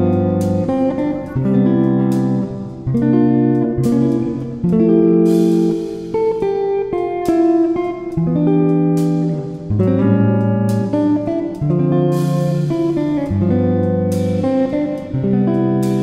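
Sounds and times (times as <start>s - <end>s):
strummed guitar chords: 0.0s - 16.0s.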